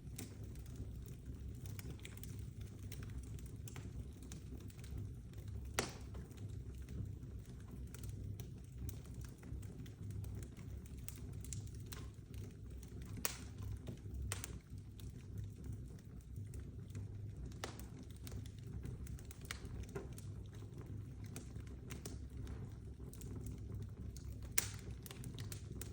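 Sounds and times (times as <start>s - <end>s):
fire crackling and popping: 0.0s - 25.9s
low rumble of burning: 0.0s - 25.9s.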